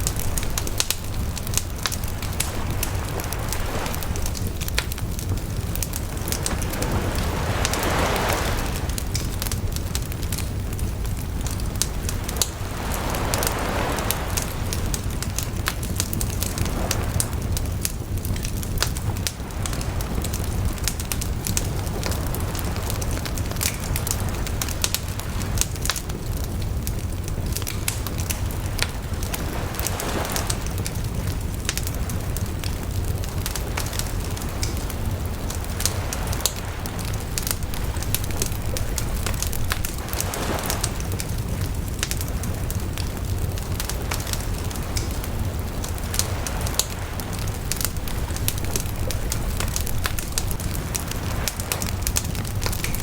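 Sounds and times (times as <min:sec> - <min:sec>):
flames whooshing: 0:00.0 - 0:53.0
wood fire crackling and popping: 0:00.0 - 0:53.0.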